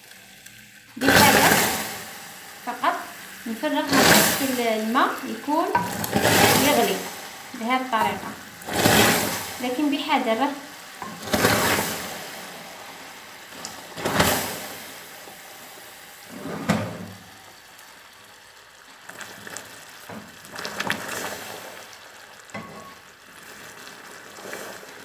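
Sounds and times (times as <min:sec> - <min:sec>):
caramel sizzling in a saucepan: 0:00.0 - 0:25.0
water pouring: 0:00.9 - 0:25.0.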